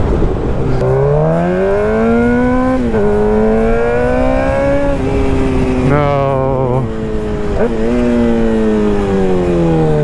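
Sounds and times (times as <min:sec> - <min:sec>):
motorcycle engine accelerating: 0:00.0 - 0:10.0
steady rushing noise: 0:00.0 - 0:10.0.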